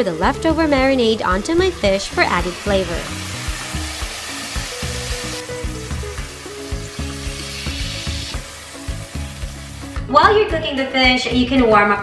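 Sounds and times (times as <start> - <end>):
fish sizzling in a frying pan: 0.0 - 10.0
background music: 0.0 - 12.0.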